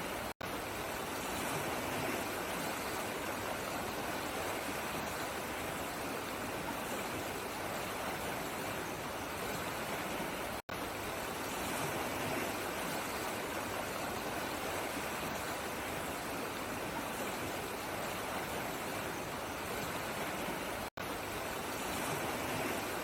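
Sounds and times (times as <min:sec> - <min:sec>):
water flowing over rocks: 0:00.0 - 0:23.0.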